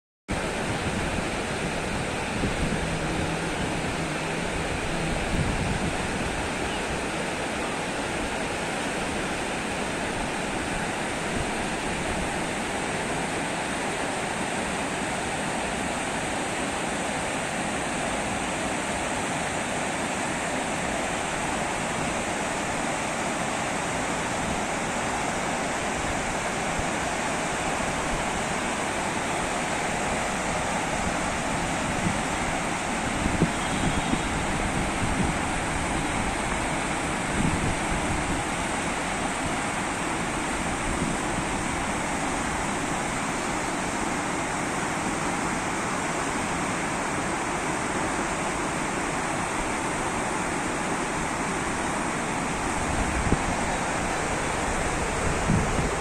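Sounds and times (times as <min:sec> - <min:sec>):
river water rushing: 0:00.3 - 0:56.0.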